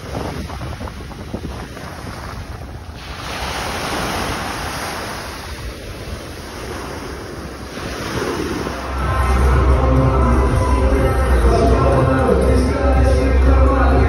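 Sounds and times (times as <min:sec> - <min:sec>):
sea waves breaking: 0:00.0 - 0:11.5
wind rumbling on microphone: 0:00.0 - 0:14.0.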